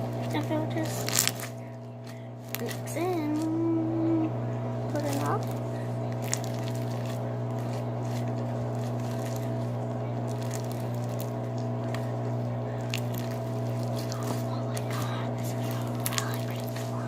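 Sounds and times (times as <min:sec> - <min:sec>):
slime squishing: 0:00.0 - 0:03.6, 0:04.9 - 0:17.0
steady low hum: 0:00.0 - 0:17.0
slime clicks and crackles: 0:00.1 - 0:03.5, 0:05.0 - 0:17.0.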